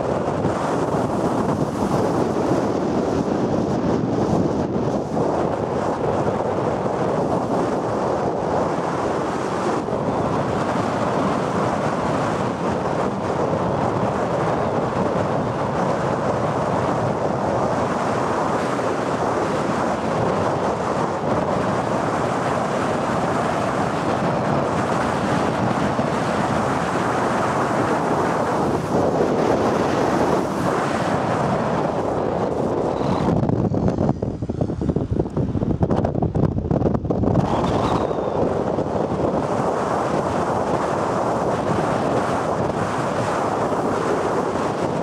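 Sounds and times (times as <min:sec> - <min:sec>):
road and tyre noise: 0:00.0 - 0:45.0
wind rushing on microphone: 0:00.0 - 0:45.0.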